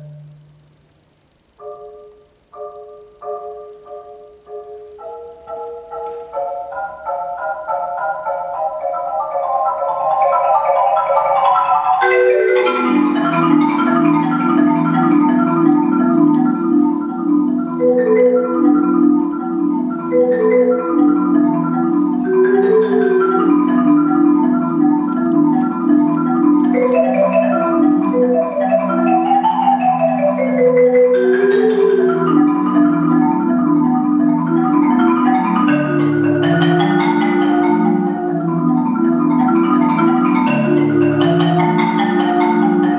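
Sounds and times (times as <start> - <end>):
marimba played fast: 0.0 - 0.7, 1.5 - 42.9.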